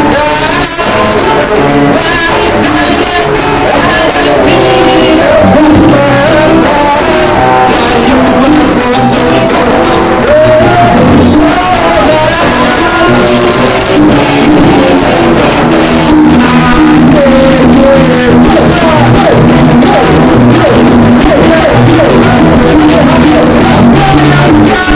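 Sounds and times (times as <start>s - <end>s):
rock band with guitar and singing: 0.0s - 24.9s.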